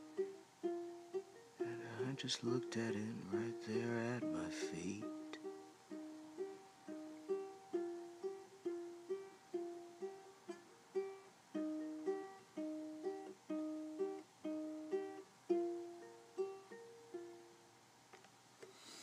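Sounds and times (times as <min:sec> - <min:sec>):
solo ukulele melody: 0:00.0 - 0:17.9.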